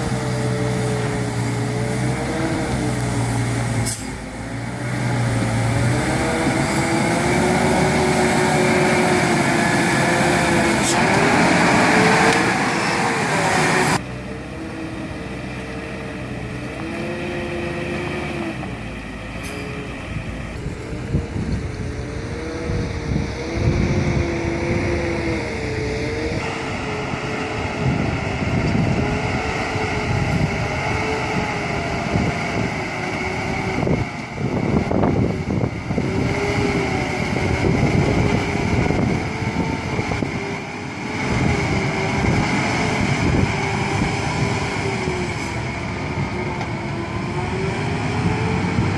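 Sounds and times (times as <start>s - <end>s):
truck diesel engine straining: 0.0s - 48.9s.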